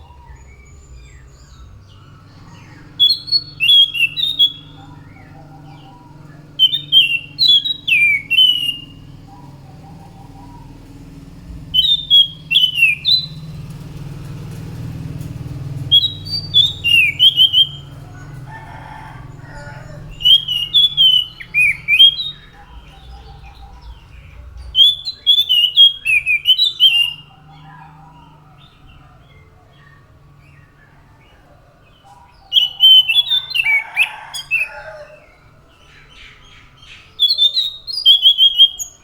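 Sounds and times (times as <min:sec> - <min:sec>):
faint low hum: 0:00.0 - 0:32.5
thrush singing whistled notes: 0:00.0 - 0:39.0.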